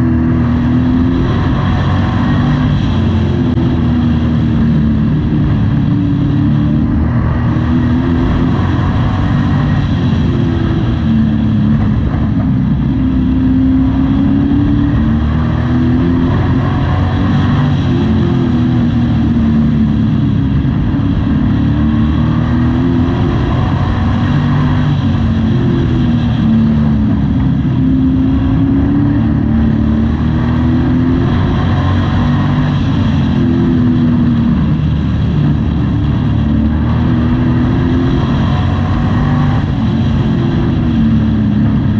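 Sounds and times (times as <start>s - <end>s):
race truck engine at full throttle: 0.0s - 41.9s.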